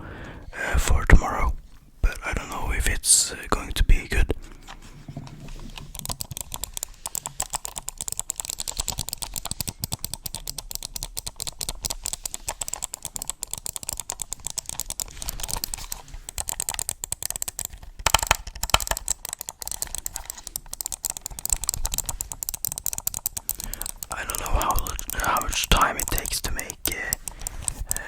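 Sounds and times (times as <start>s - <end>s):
fast typing on keyboard: 5.3s - 28.0s.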